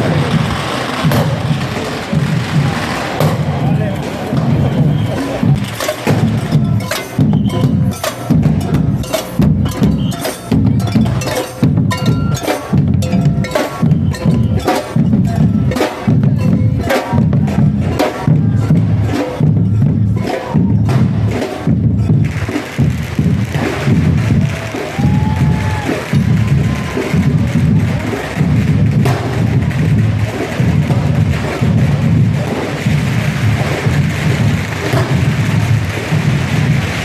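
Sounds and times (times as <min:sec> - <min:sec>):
drum band playing march: 0:00.0 - 0:37.0.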